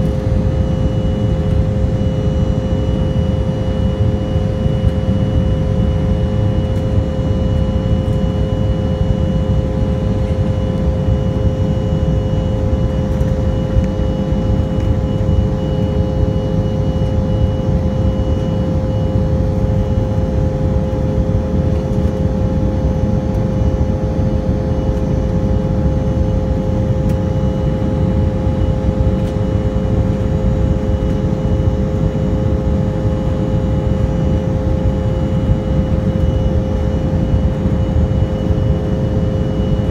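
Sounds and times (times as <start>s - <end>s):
airplane cabin rumble: 0.0s - 39.9s
jet engine whine: 0.0s - 39.9s.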